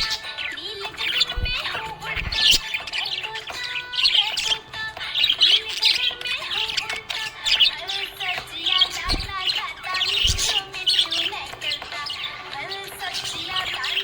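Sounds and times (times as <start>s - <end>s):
budgies chirping: 0.0s - 14.0s.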